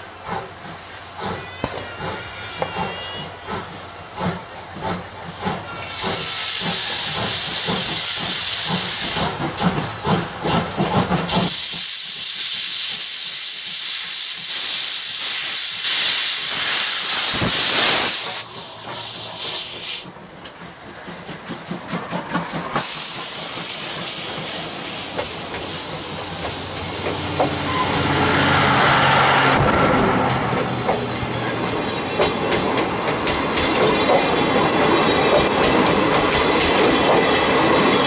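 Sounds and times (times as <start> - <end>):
steam hissing: 0.0 - 38.0
steam locomotive chuffing: 0.0 - 38.0
train running clatter: 0.0 - 38.0.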